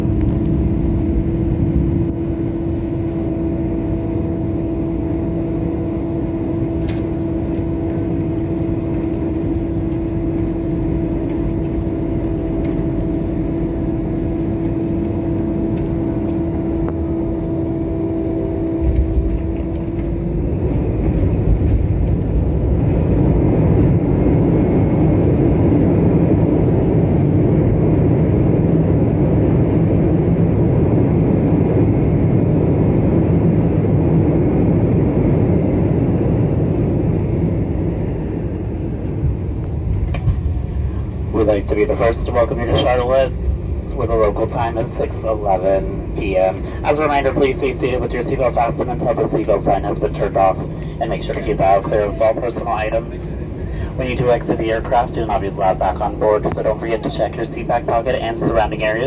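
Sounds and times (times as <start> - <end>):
airliner engine drone: 0.0 - 59.0.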